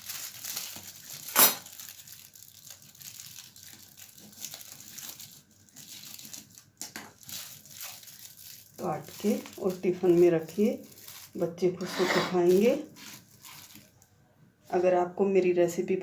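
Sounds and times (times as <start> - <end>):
wrapper crinkling and rustling: 0.0 - 14.1.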